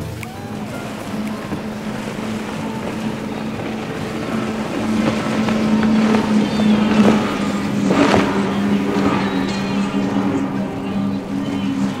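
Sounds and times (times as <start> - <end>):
outboard motors running: 0.0 - 12.0
water rushing hiss: 0.0 - 12.0.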